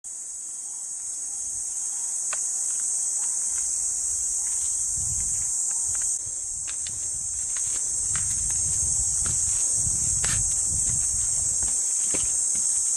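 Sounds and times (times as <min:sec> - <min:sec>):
high-pitched insect chorus: 0:00.1 - 0:12.9.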